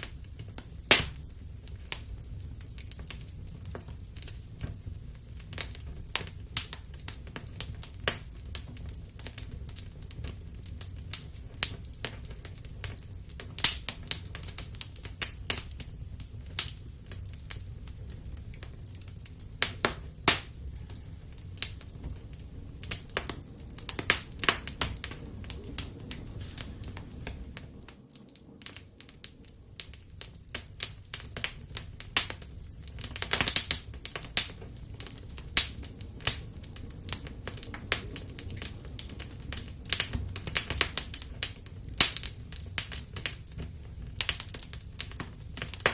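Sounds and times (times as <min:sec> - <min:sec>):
sharp pops and snaps: 0:00.0 - 0:04.8, 0:05.4 - 0:45.9
low rumble of flames: 0:00.0 - 0:45.9
wood fire crackling: 0:00.0 - 0:45.9.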